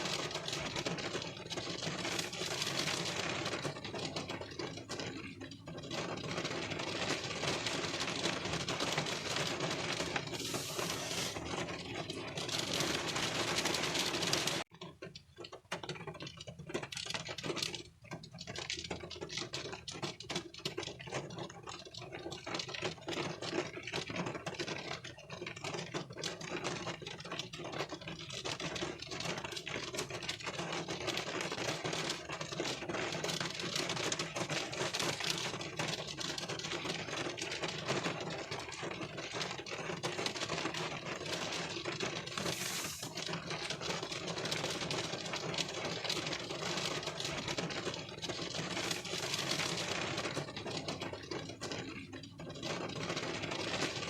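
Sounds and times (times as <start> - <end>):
rain on car windshield: 0.0 - 54.0.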